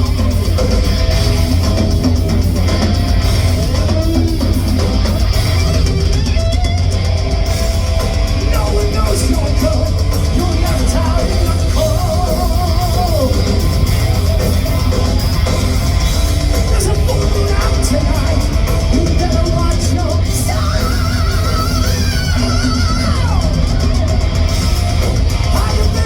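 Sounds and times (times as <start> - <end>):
drum kit: 0.0 - 26.0
electric guitar: 0.0 - 26.0
heavy rock band playing: 0.0 - 26.0.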